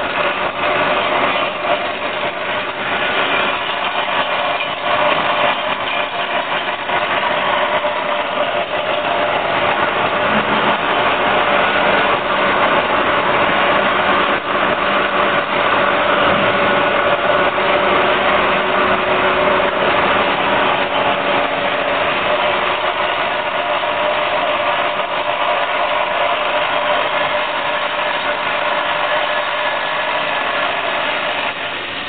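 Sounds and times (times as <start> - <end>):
machine buzzing and rattling: 0.0 - 32.0.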